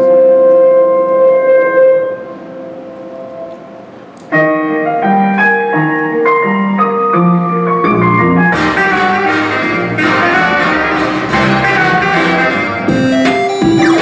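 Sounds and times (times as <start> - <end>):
background music chords: 0.0 - 14.0.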